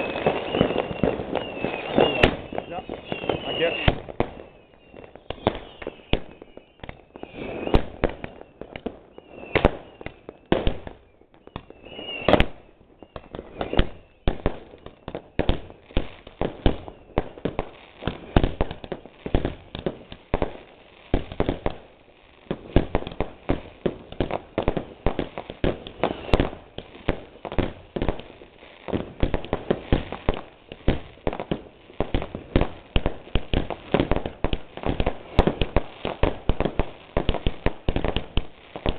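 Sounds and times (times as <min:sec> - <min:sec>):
firework whistles: 0:00.0 - 0:21.8, 0:22.5 - 0:38.9
fireworks bangs and crackling: 0:00.0 - 0:38.9.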